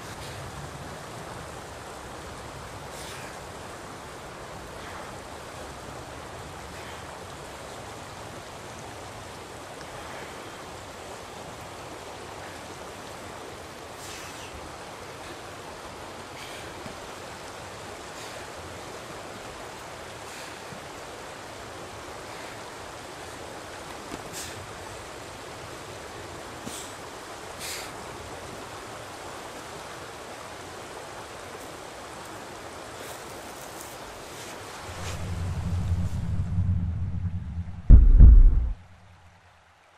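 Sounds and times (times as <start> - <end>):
rushing river: 0.0 - 36.4.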